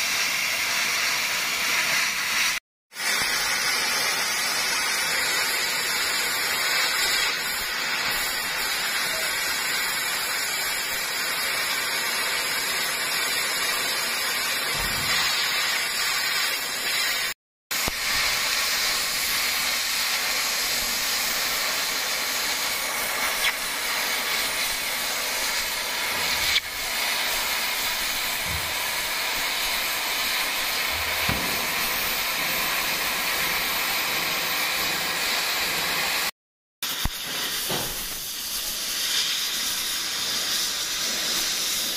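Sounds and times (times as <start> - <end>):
gas cutting torch hissing: 0.0 - 41.9.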